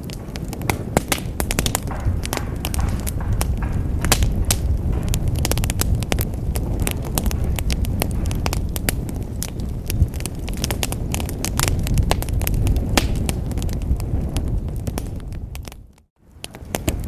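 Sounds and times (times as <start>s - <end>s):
low rumble of flames: 0.0s - 17.0s
wood fire popping and snapping: 0.0s - 17.0s.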